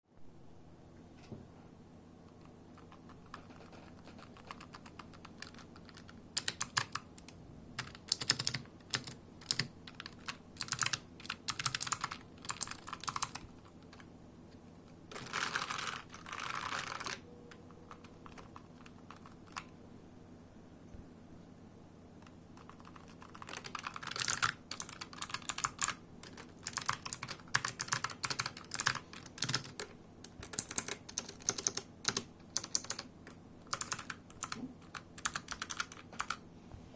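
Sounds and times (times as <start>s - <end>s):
keyboard keys clicking: 2.4s - 14.1s, 15.1s - 19.7s, 22.6s - 36.4s.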